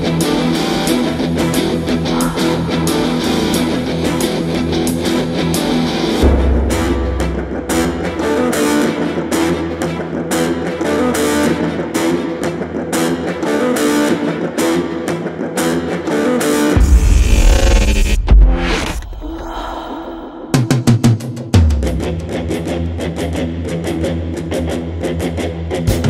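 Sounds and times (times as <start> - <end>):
upbeat guitar rock music: 0.0 - 19.0, 20.6 - 26.0.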